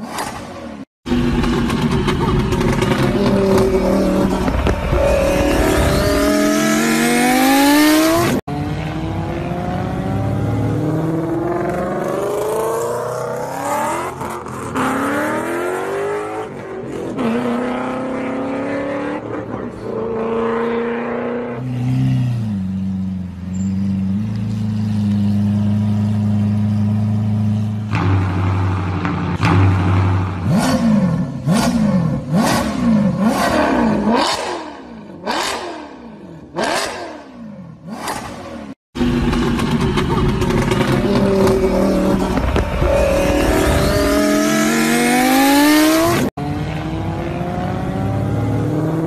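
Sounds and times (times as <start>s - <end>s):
car engine revving: 1.1s - 23.0s, 23.8s - 49.0s.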